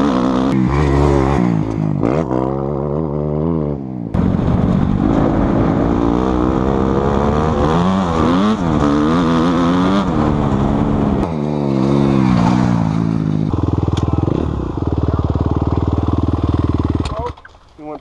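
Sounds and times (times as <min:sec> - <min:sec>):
dirt bike engine revving: 0:00.0 - 0:17.2.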